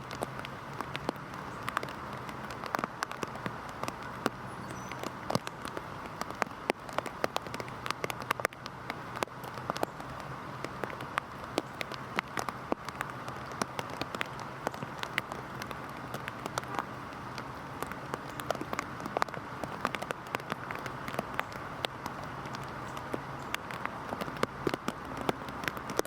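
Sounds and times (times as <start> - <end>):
heavy rain hiss: 0.0 - 26.0
raindrops tapping on a surface: 0.0 - 26.0.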